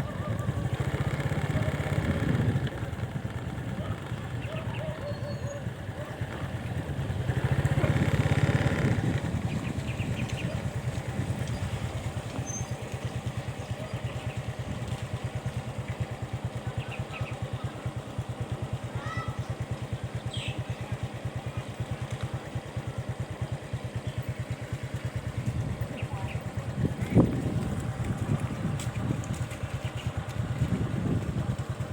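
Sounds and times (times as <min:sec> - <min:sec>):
small engine running: 0:00.0 - 0:31.9.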